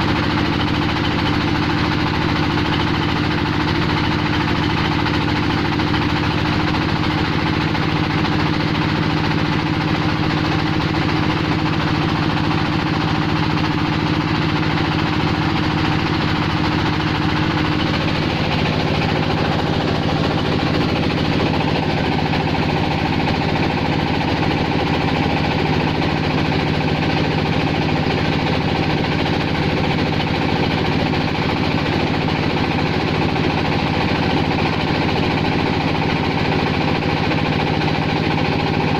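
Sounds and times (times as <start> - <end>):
machine droning with rapid knocking: 0.0 - 38.9.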